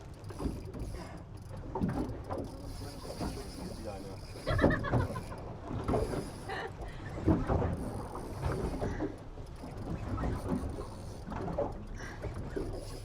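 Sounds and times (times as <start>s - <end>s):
water rushing against boat: 0.0s - 13.0s
wind: 0.0s - 13.0s.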